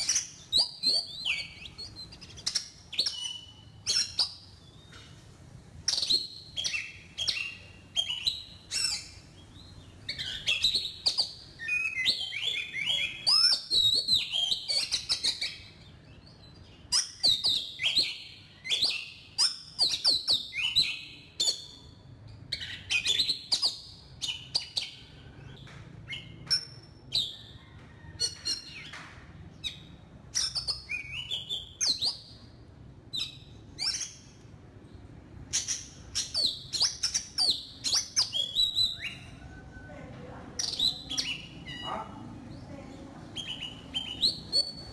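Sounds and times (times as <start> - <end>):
magpie-robin singing: 0.0 - 44.9.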